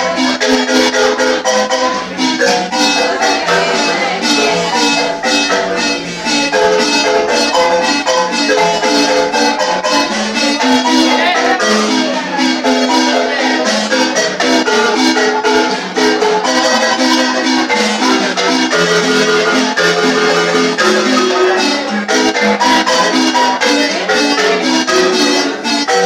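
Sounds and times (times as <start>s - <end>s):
marimba played with mallets: 0.0s - 26.0s.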